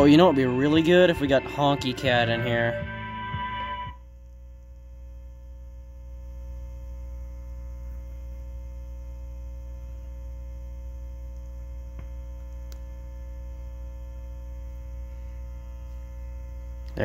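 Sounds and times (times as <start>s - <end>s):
radio speaker mains hum: 0.0s - 17.0s.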